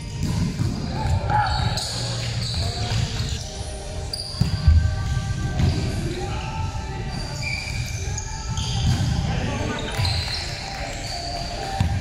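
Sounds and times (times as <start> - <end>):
voices in gym: 0.0 - 12.0.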